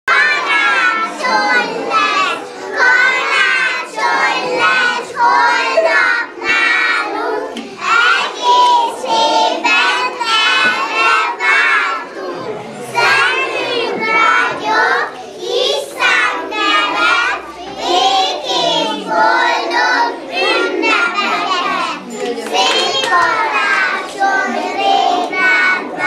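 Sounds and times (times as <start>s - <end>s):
children singing in unison: 0.1s - 26.0s.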